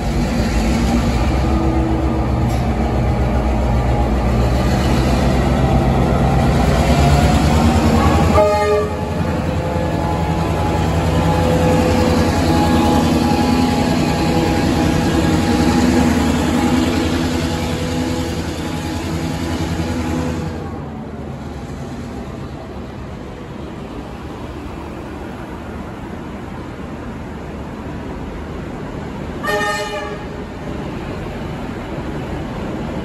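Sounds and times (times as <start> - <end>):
train running past: 0.0 - 33.0.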